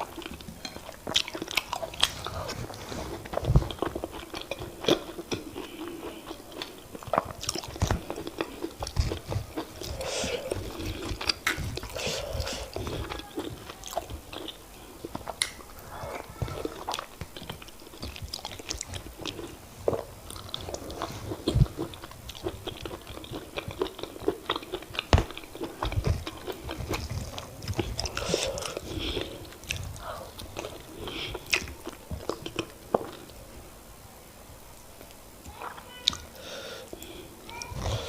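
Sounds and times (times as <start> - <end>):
wet chewing and mouth smacks: 0.0 - 15.6, 16.2 - 33.4.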